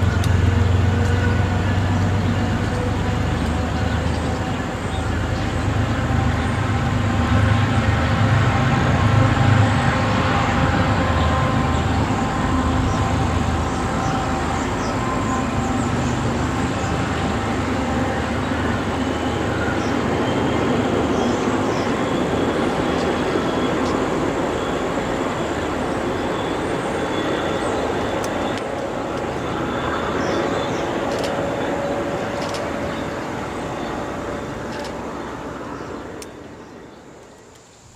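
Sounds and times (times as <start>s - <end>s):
train rumbling past on rails: 0.0s - 37.9s.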